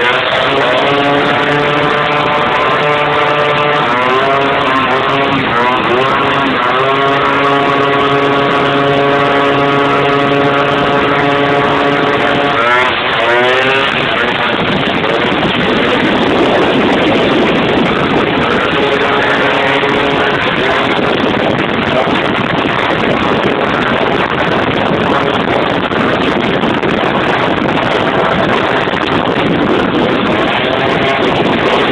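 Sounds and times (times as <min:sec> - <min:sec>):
scooter engine revving: 0:00.0 - 0:31.9.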